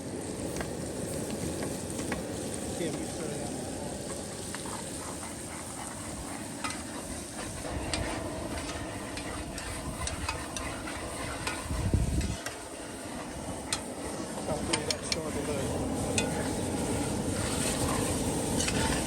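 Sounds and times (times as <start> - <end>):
shrimp sizzling in butter: 0.0 - 19.0.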